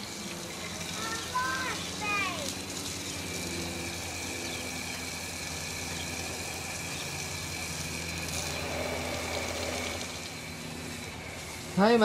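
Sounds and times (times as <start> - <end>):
hose nozzle spraying water: 0.0 - 12.0
low engine-like hum: 0.0 - 12.0.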